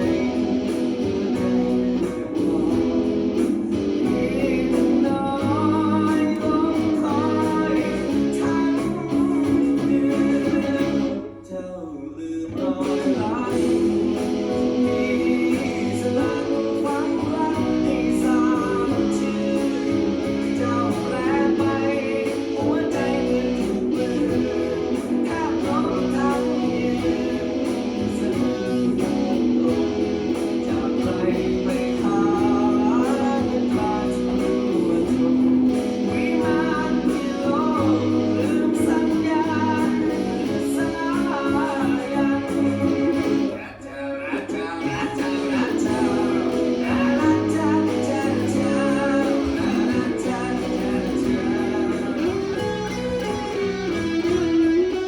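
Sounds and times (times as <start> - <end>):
guitar music: 0.0 - 55.0.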